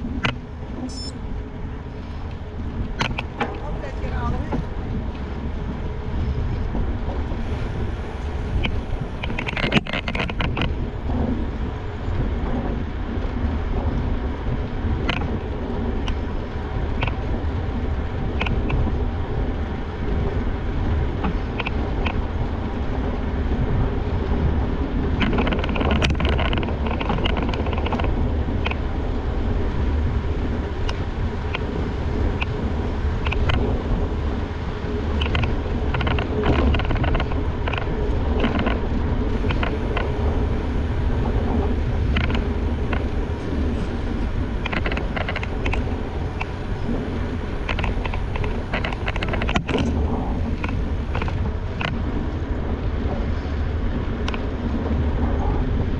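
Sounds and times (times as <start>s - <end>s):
bike clicking and rattling: 0.0s - 55.9s
tyres rumbling on path: 0.0s - 55.9s
wind buffeting microphone: 0.0s - 55.9s.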